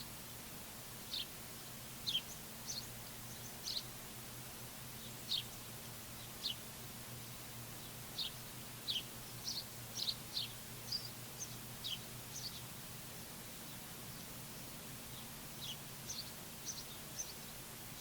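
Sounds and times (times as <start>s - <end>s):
low hum and hiss: 0.0s - 18.0s
small songbird chirping: 1.0s - 1.4s, 2.0s - 18.0s.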